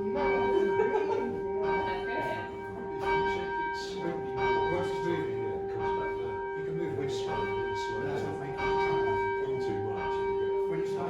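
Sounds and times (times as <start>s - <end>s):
church bell ringing: 0.0s - 11.0s.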